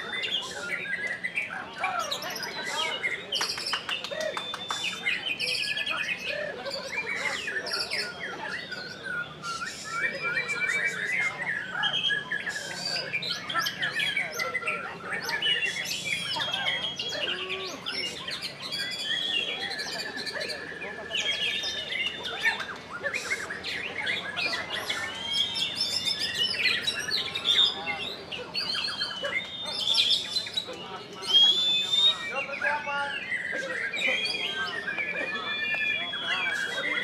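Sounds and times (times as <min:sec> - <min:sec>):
songbird singing whistles: 0:00.0 - 0:37.0.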